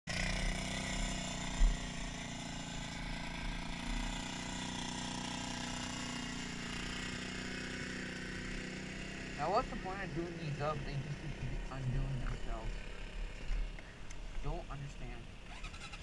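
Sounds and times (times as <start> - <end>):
engine idling: 0.1 - 16.0.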